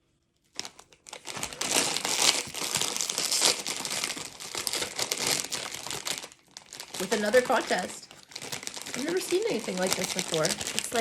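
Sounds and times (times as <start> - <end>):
plastic chip bag crackling: 0.5 - 11.0.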